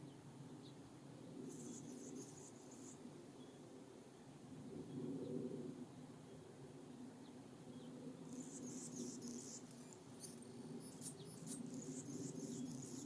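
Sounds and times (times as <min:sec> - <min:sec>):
small songbirds chipping: 0:00.0 - 0:13.0.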